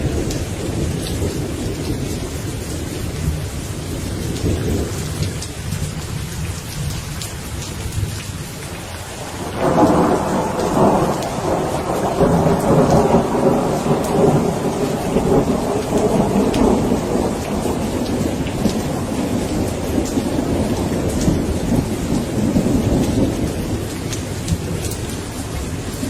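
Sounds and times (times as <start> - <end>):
low rumble of thunder: 0.0 - 8.2, 9.2 - 26.0
steady rain: 0.0 - 26.0.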